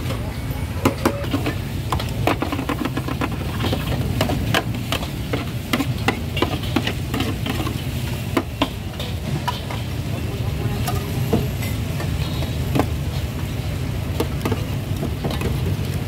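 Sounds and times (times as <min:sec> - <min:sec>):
clinks and knocks of utensils: 0:00.0 - 0:13.5.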